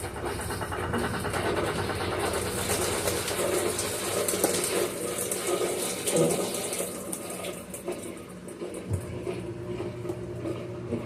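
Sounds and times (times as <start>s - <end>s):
washing machine draining water: 0.0s - 11.0s.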